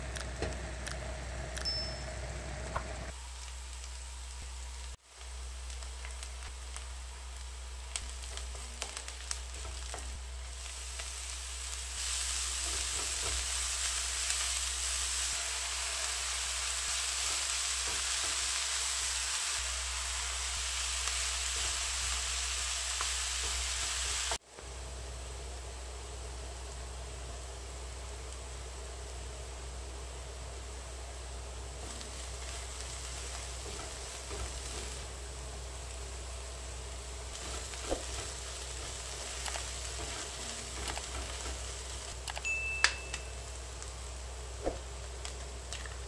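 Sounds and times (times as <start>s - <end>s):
food sizzling in a frying pan: 0.0s - 46.0s.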